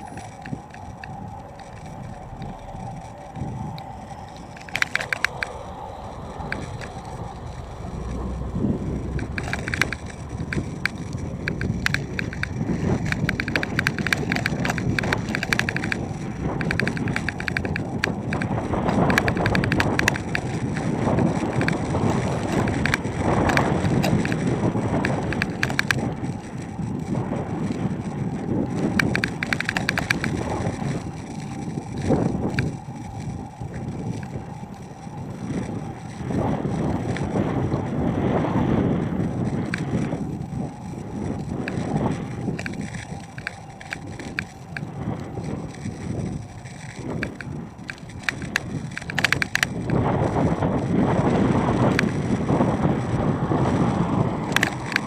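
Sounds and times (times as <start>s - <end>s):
bicycle rattling clicks: 0.0s - 55.0s
wind buffeting microphone: 0.0s - 55.0s.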